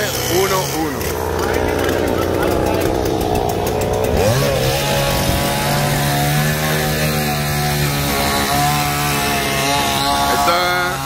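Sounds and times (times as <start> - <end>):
chainsaw running at high speed: 0.0 - 11.0.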